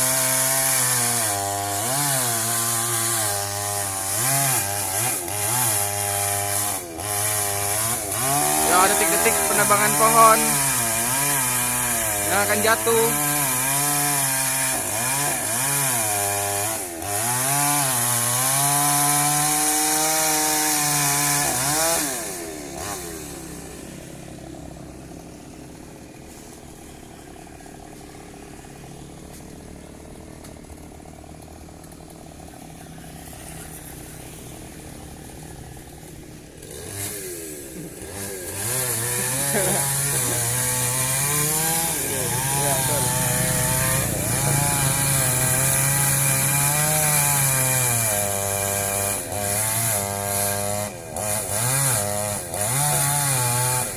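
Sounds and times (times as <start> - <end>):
chainsaw revving and cutting: 0.0 - 53.9.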